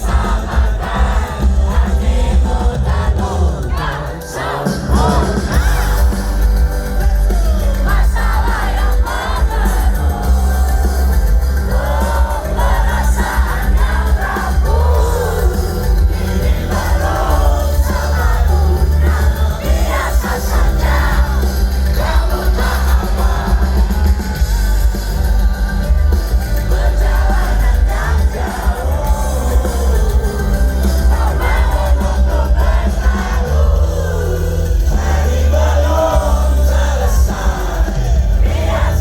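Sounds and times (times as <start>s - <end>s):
crowd noise: 0.0s - 39.0s
loud concert music: 0.0s - 39.0s
person singing: 0.0s - 39.0s.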